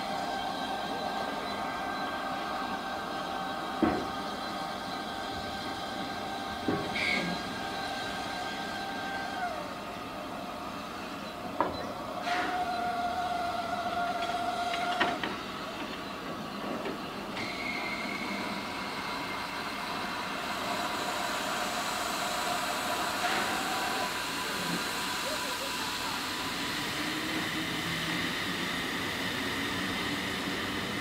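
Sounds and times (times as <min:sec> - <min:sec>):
steam hissing: 0:00.0 - 0:11.2, 0:12.1 - 0:31.0
faint steady tones: 0:00.0 - 0:27.1.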